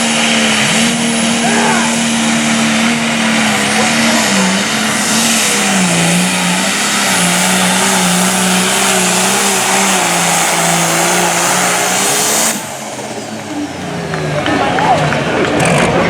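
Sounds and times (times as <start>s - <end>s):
tractor engine at full throttle: 0.0s - 16.0s.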